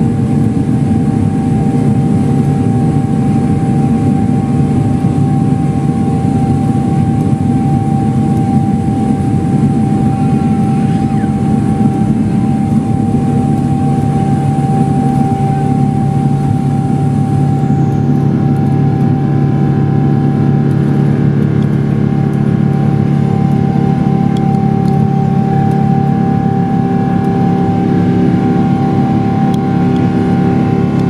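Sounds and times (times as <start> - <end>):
jet engine drone in cabin: 0.0 - 31.0
jet engine whine: 0.0 - 31.0.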